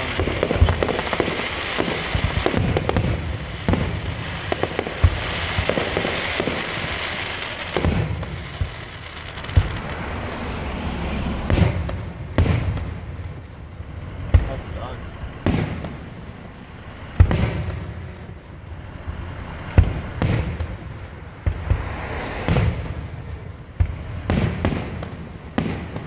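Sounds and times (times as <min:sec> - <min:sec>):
firework crackling hiss: 0:00.0 - 0:26.0.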